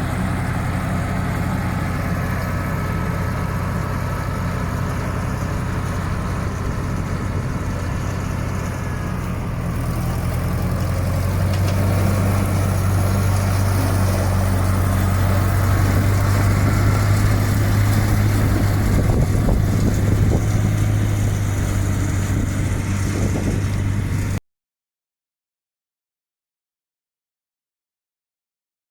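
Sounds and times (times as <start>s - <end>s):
tractor engine running: 0.0s - 24.4s.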